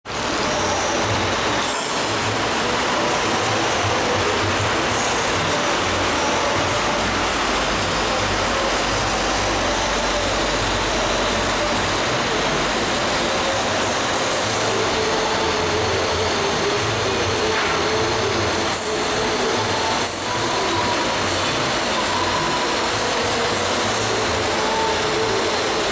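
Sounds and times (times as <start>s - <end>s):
welding arc hissing: 0.2s - 25.9s.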